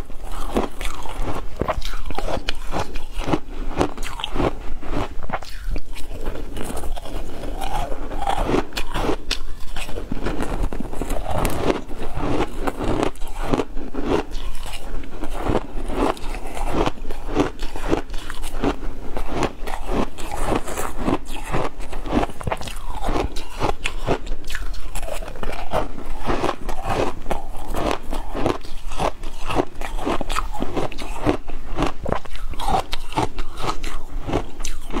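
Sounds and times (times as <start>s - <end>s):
crushed ice being crunched: 0.2s - 24.3s, 24.9s - 35.0s.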